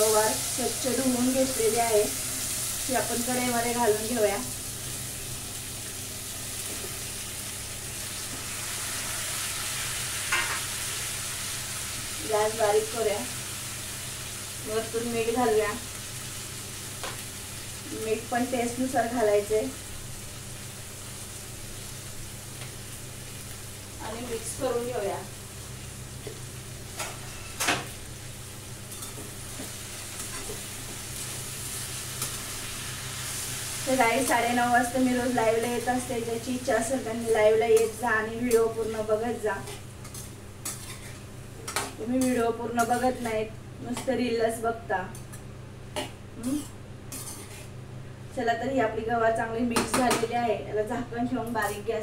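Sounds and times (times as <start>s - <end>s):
beans sizzling in hot oil: 0.0s - 45.6s.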